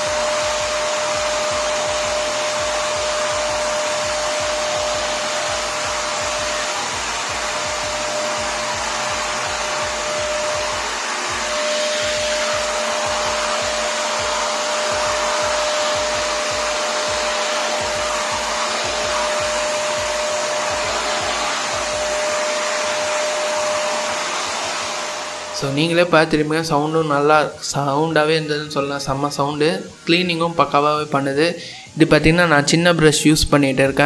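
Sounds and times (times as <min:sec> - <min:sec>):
vacuum cleaner whirring and whining: 0:00.0 - 0:34.0.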